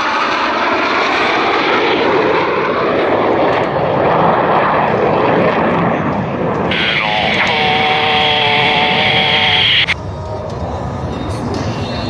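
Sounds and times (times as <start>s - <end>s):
jet engines flying past: 0.0s - 12.0s.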